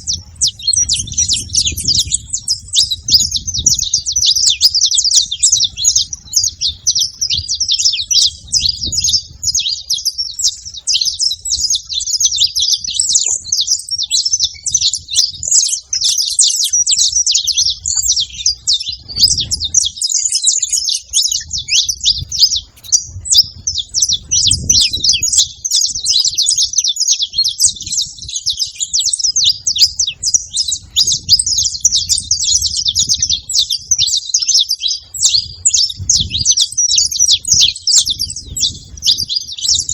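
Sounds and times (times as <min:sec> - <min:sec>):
finches chirping and twittering: 0:00.0 - 0:39.9.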